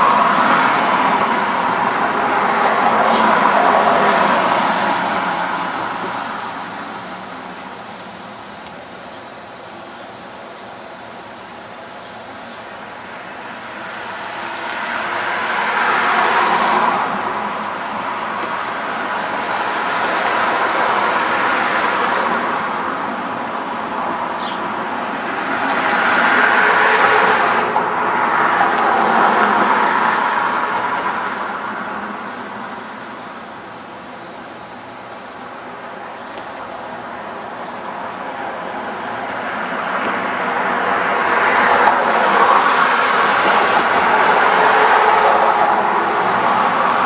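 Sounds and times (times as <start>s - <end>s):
vehicles passing on road: 0.0s - 47.0s.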